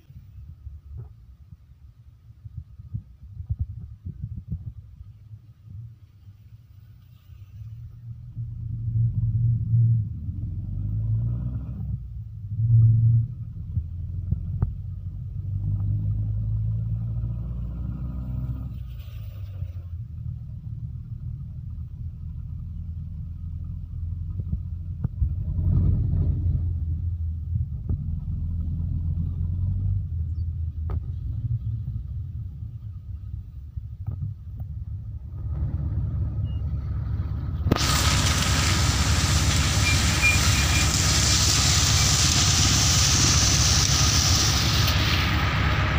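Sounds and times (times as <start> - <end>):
vehicle engine rumbling: 0.0 - 45.9.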